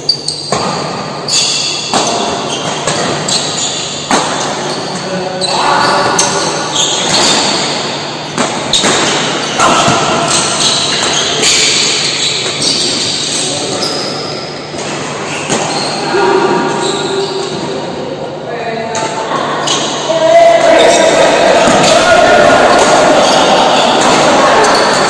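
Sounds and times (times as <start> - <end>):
rackets hitting shuttlecock: 0.1 - 5.2, 6.0 - 13.8, 14.6 - 18.0, 20.6 - 25.0.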